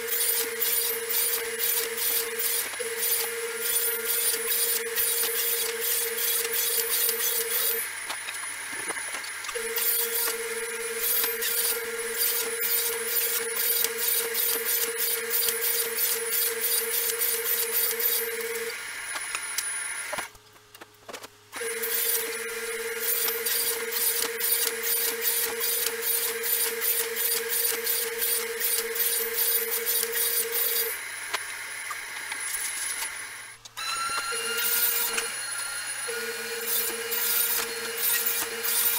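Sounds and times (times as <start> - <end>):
saw cutting plywood: 0.0 - 7.9, 9.6 - 18.6, 21.6 - 31.0, 34.0 - 38.9
table saw blade whine: 0.0 - 20.3, 21.6 - 38.9.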